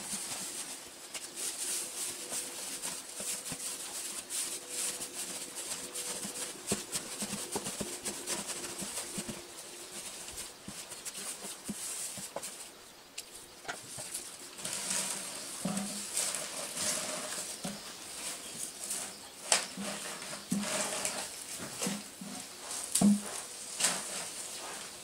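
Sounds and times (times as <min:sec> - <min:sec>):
dry hay rustling and crackling: 0:00.0 - 0:25.0.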